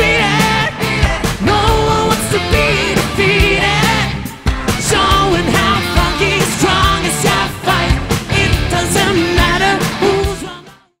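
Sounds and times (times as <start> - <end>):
pop-rock song with male vocals: 0.0 - 11.0.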